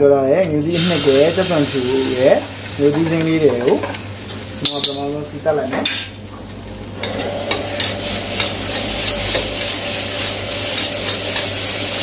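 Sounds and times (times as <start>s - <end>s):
aromatics sizzling in hot oil: 0.5s - 12.0s.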